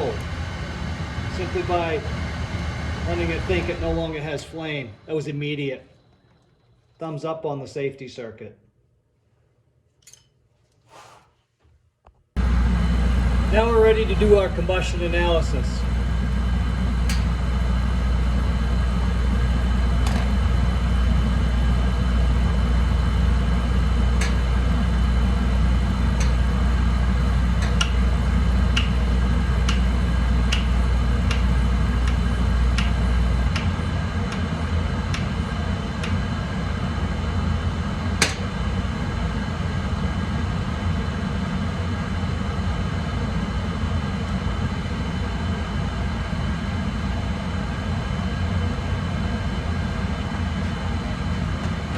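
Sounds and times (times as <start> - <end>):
boiler burner deep rumble: 0.0 - 5.6, 12.4 - 51.9.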